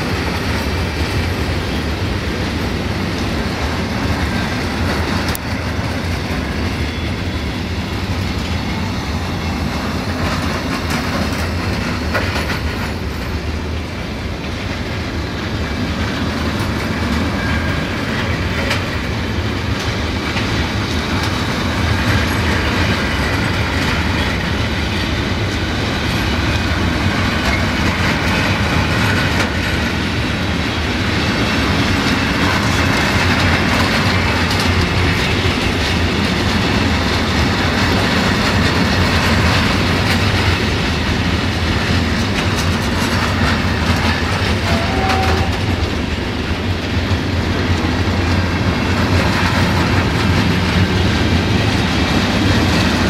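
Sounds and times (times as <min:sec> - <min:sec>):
train wheels clicking over rail joints: 0:00.0 - 0:53.0.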